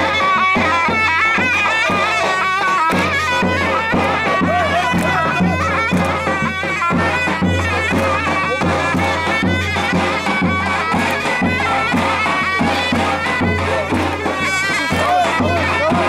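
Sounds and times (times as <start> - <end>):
davul drum beats: 0.0 - 16.0
zurna wavering melody: 0.0 - 16.0.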